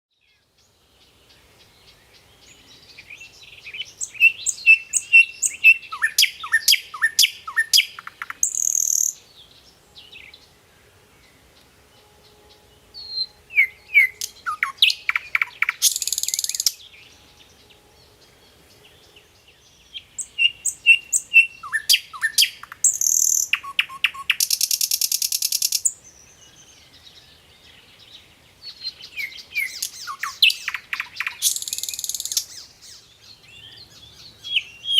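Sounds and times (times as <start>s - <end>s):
songbird singing: 0.1s - 34.9s.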